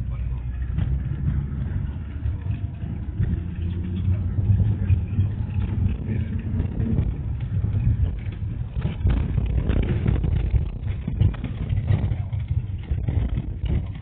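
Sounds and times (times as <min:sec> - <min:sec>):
minibus engine rumble: 0:00.0 - 0:14.0.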